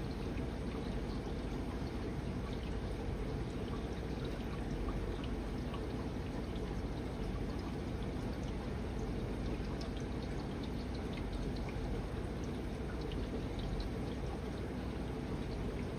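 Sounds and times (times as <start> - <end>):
water drips and splashes: 0.0 - 15.9
water pouring and trickling: 0.0 - 15.9.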